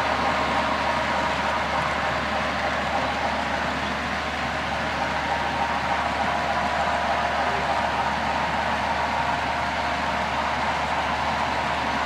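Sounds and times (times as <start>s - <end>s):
hubbub of busy hall: 0.0s - 12.0s
model train cars rolling on track: 0.0s - 12.0s.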